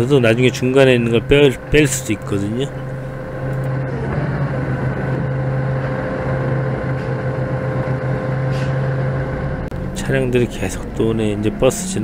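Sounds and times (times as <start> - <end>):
bus passing close: 0.0 - 12.0
forklift engine idling: 0.0 - 12.0.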